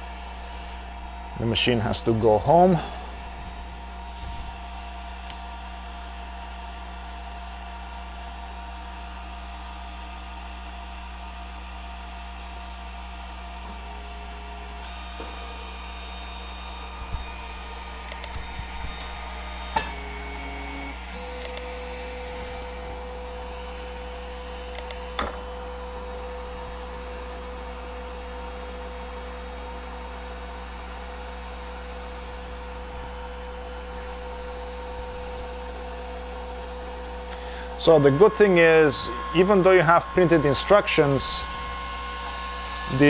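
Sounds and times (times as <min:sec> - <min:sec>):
machine hum: 0:00.0 - 0:43.0
steady whine: 0:00.0 - 0:43.0.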